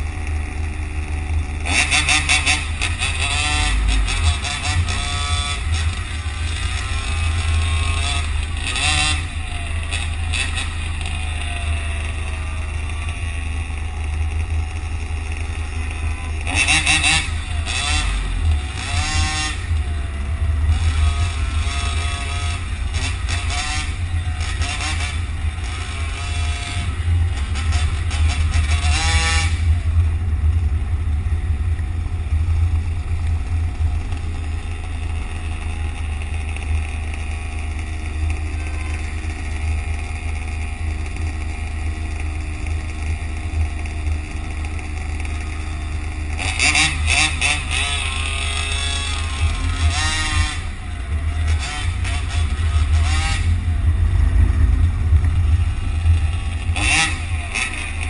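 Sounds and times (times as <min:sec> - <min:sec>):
low traffic rumble: 0:00.0 - 0:58.0.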